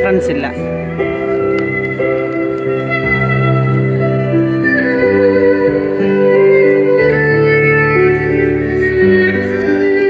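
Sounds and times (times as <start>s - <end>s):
cello bowing sustained notes: 0.0s - 10.0s.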